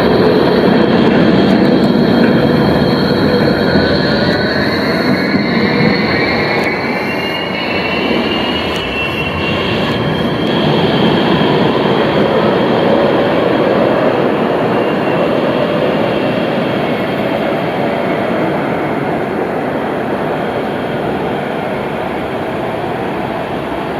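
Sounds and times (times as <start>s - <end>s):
high whine: 0.0s - 23.9s
tram rail rumble: 0.0s - 23.9s.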